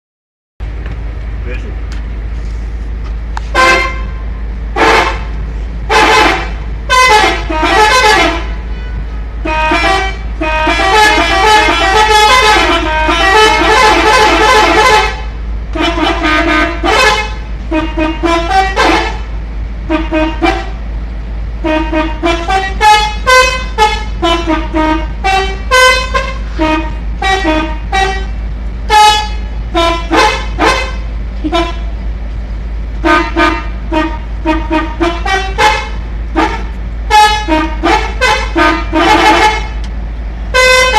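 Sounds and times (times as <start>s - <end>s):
multi-tone musical bus horn: 3.4s - 32.1s, 33.0s - 40.9s.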